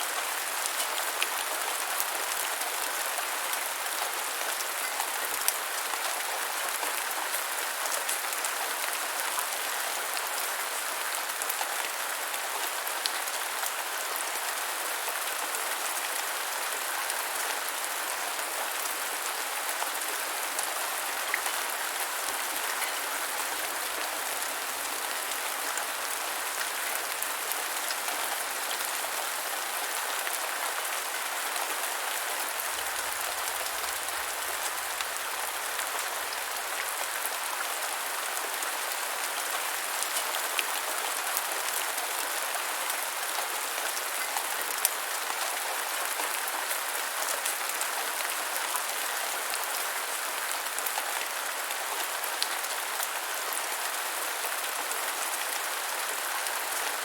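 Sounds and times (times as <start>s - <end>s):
steady rain falling on ground: 0.0s - 57.0s.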